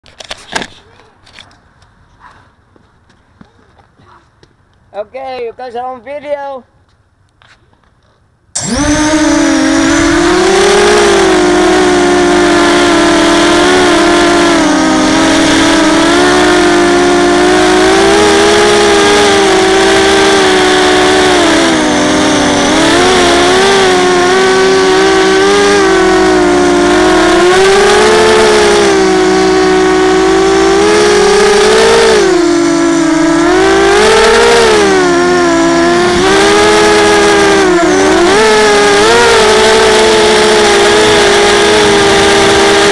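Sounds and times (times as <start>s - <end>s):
quadcopter motors whining: 8.6s - 42.9s.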